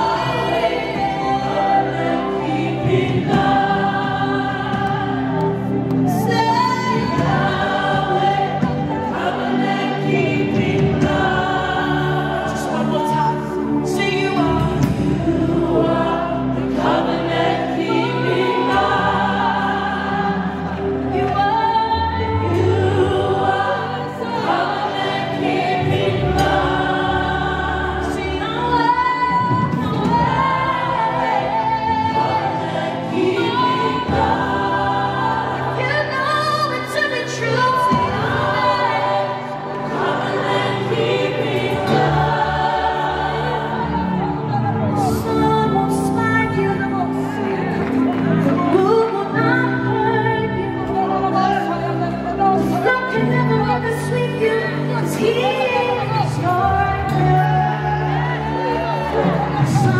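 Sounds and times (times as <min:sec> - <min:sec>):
backing choir: 0:00.0 - 0:59.9
woman singing lead: 0:00.0 - 0:59.9.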